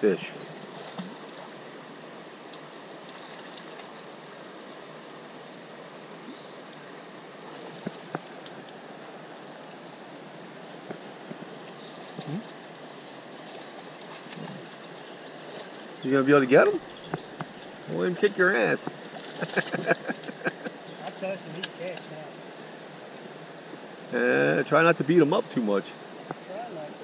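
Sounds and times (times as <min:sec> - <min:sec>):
creek water running: 0:00.0 - 0:27.0.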